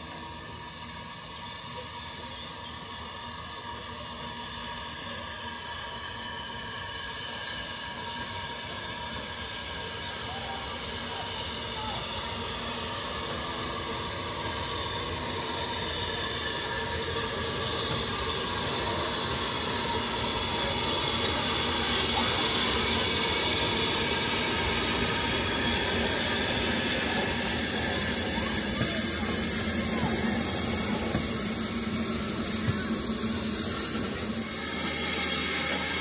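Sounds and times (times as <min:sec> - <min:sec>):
steam hissing: 0:00.0 - 0:36.0
train wheels on rails: 0:00.0 - 0:36.0.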